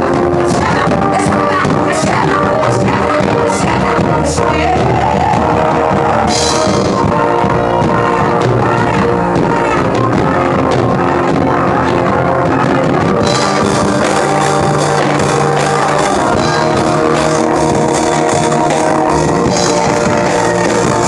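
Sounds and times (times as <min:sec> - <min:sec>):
rock-style gospel band: 0:00.0 - 0:21.0.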